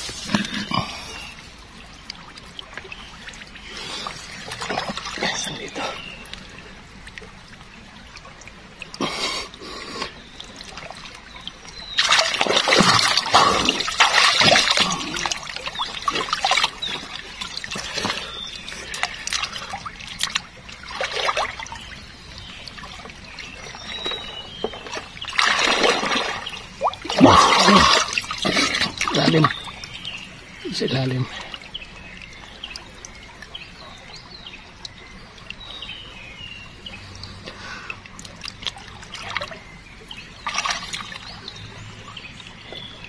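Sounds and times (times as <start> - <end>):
river water splashing: 0.0 - 43.0.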